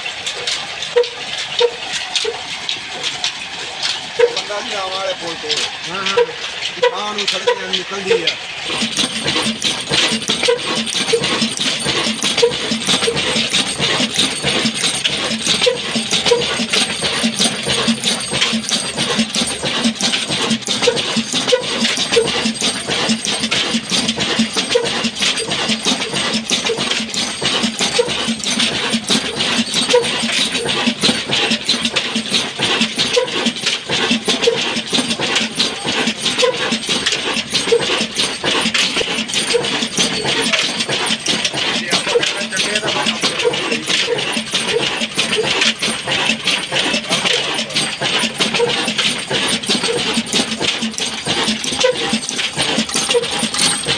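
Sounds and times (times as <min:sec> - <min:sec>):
diesel engine clattering: 0:00.0 - 0:53.9.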